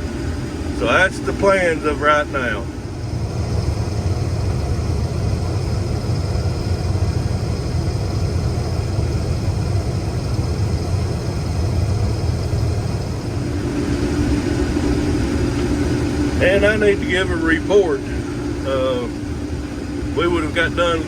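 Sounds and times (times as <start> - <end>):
heavy vehicle engine droning: 0.0 - 21.0.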